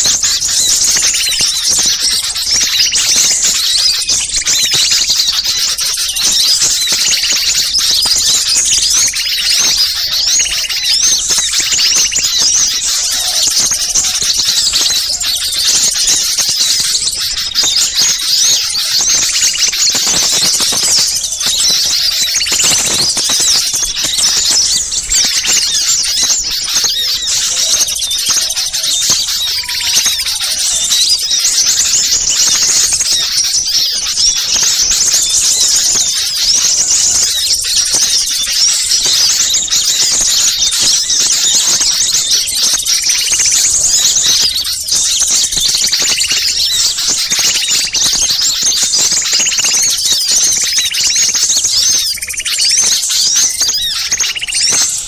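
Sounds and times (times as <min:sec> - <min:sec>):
chorus of small songbirds: 0:00.0 - 0:55.0.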